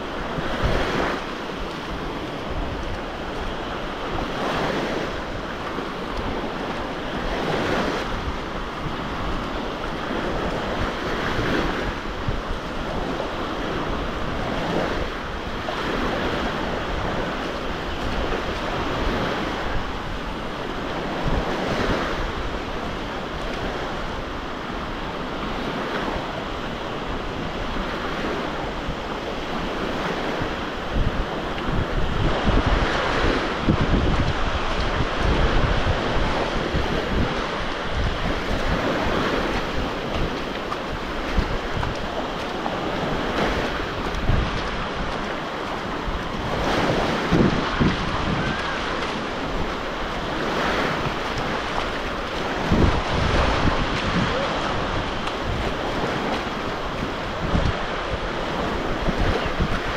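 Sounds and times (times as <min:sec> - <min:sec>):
waves breaking on shore: 0:00.0 - 0:59.9
wind buffeting microphone: 0:00.0 - 0:59.9.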